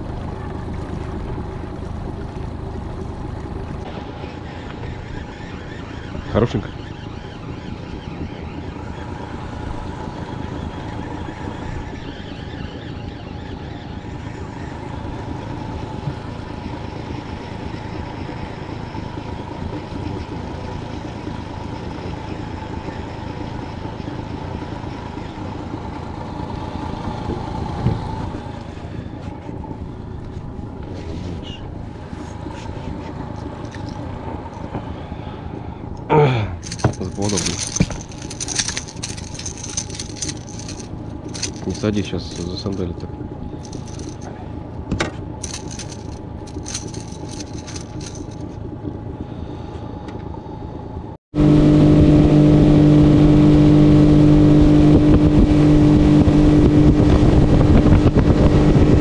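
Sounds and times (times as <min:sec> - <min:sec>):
outboard motor running: 0:00.0 - 0:50.4.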